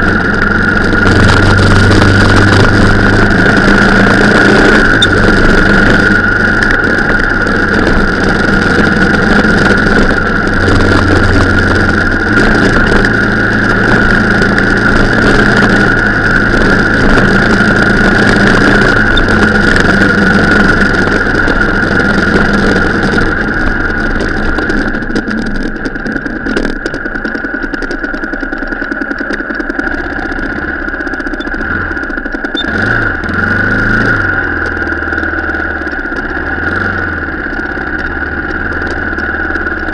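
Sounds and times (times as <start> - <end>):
off-road vehicle engine running: 0.0 - 39.9
steady high whine: 0.0 - 39.9.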